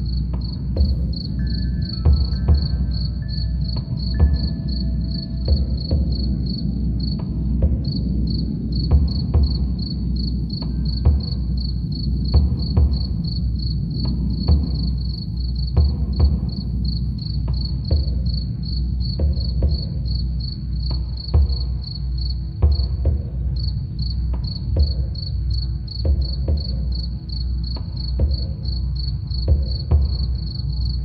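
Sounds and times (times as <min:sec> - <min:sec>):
crickets chirping: 0:00.0 - 0:31.0
deep drum drone: 0:00.0 - 0:31.0
soft drum strikes: 0:00.0 - 0:31.0.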